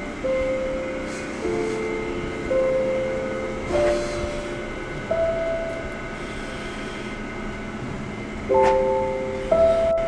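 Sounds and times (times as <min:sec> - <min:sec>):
slow electronic chords: 0:00.0 - 0:10.0.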